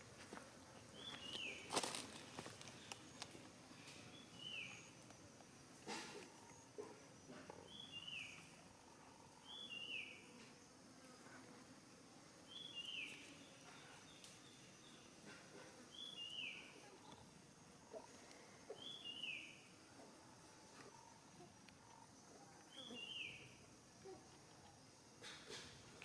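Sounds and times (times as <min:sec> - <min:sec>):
low outdoor hiss: 0:00.0 - 0:26.0.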